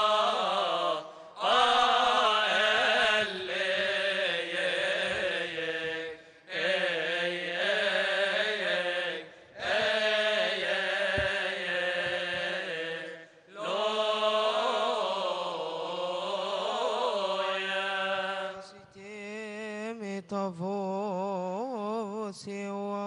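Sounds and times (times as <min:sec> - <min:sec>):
men chanting a hymn: 0:00.0 - 0:19.3.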